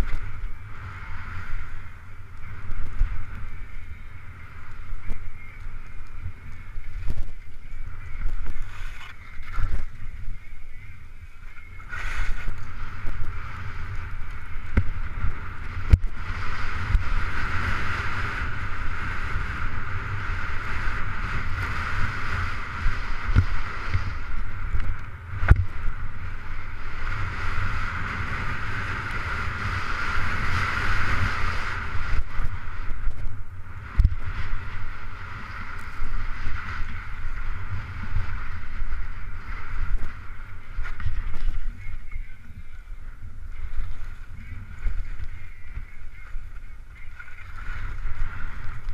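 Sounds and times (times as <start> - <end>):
skis scraping over snow: 0.0 - 48.9
wind buffeting microphone: 0.0 - 48.9.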